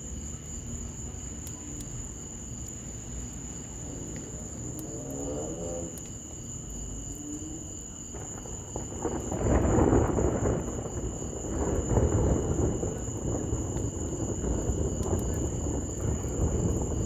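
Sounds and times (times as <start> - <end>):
crickets chirping: 0.0 - 17.0
wood fire crackling: 0.0 - 17.0.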